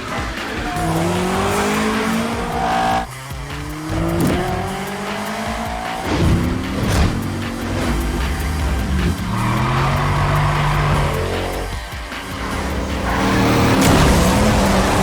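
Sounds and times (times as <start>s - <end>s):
background music: 0.0s - 15.0s
car engines accelerating hard: 0.0s - 15.0s
tires squealing: 0.0s - 15.0s.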